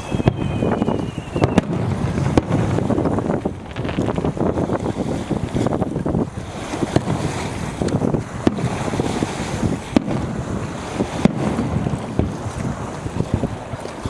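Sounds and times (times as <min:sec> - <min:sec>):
fireworks cracks: 0:00.0 - 0:13.3
wind buffeting microphone: 0:00.0 - 0:14.0.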